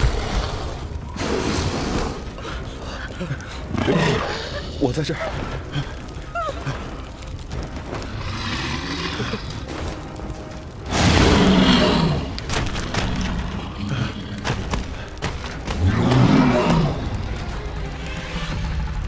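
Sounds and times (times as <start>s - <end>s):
tense music score: 0.0s - 19.0s.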